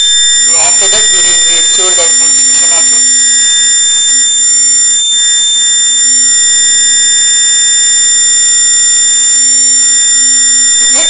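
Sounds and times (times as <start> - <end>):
high-pitched alarm buzzer tone: 0.0 - 11.0.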